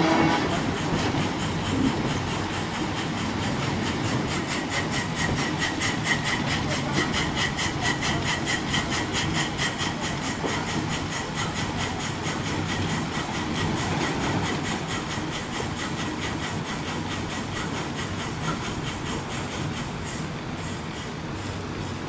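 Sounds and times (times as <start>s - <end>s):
steam locomotive exhaust beating: 0.0s - 22.0s.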